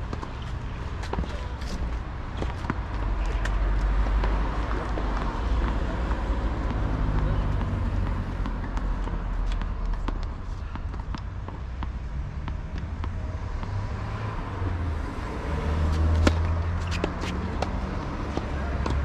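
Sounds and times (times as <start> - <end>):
tennis balls struck by rackets: 0.1 - 13.8, 14.4 - 19.0.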